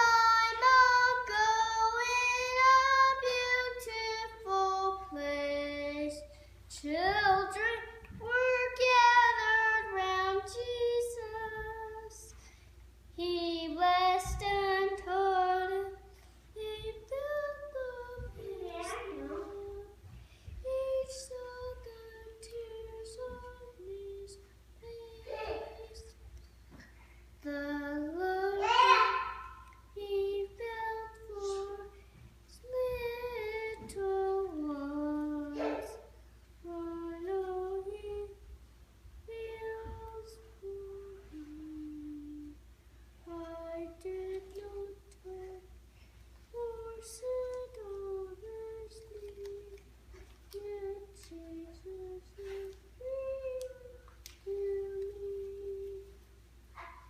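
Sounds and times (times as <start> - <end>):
child singing: 0.0 - 12.3, 13.2 - 26.2, 27.4 - 38.5, 39.2 - 42.6, 43.2 - 45.8, 46.5 - 56.2.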